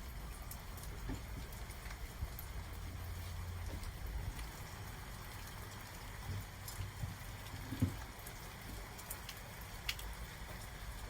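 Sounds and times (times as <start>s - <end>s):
rain drops tapping: 0.0s - 11.0s
rain hiss: 0.0s - 11.0s.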